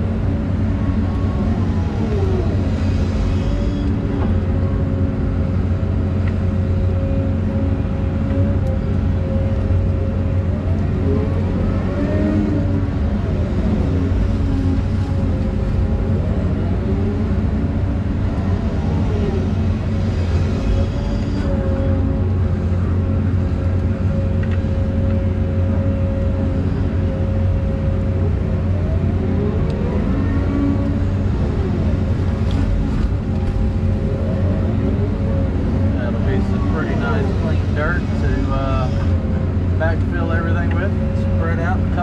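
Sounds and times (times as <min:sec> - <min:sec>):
excavator diesel engine: 0:00.0 - 0:42.0
hydraulic whine: 0:00.0 - 0:42.0.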